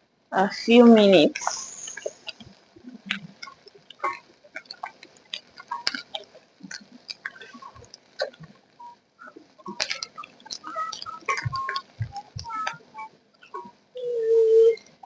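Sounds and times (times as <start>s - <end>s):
stew pops and crackles: 1.3s - 13.8s.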